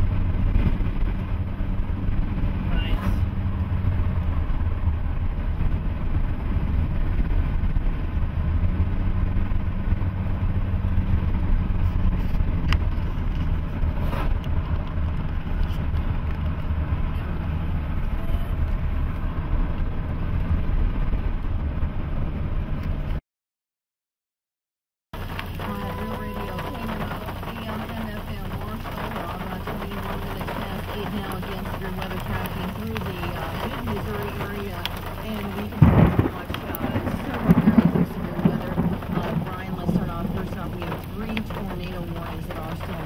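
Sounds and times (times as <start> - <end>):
engine and tyre rumble: 0.0 - 23.2, 25.2 - 43.0.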